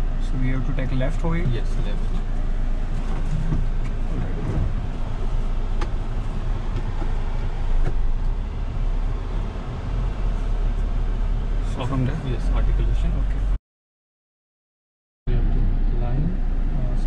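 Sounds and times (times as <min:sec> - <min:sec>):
diesel engine running low: 0:00.0 - 0:13.6, 0:15.3 - 0:17.0.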